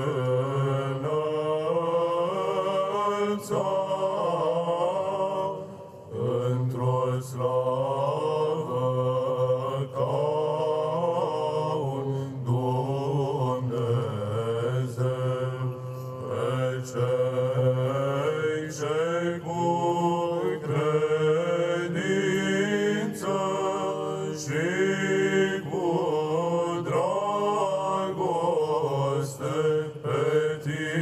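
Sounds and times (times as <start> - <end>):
choir chanting ornamented melody: 0.0 - 31.0
low vocal drone: 0.0 - 31.0.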